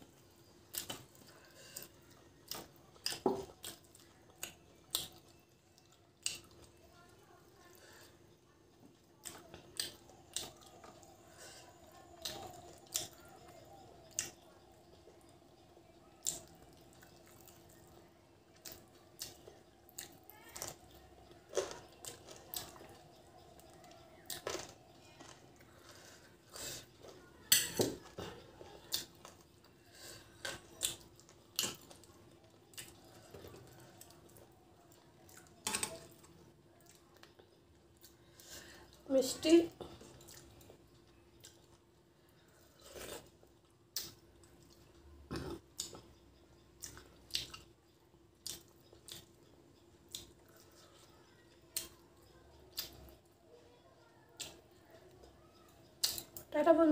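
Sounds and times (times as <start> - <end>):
faint steady hum: 0.0 - 56.9
chewing and lip smacks: 0.6 - 6.7, 8.9 - 39.0, 39.8 - 53.4.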